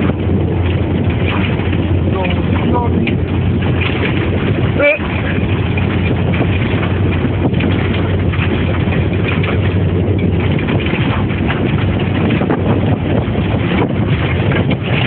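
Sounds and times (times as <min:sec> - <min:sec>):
knocks and rattles: 0:00.0 - 0:15.0
vehicle engine hum: 0:00.0 - 0:15.0
wind buffeting microphone: 0:00.0 - 0:15.0.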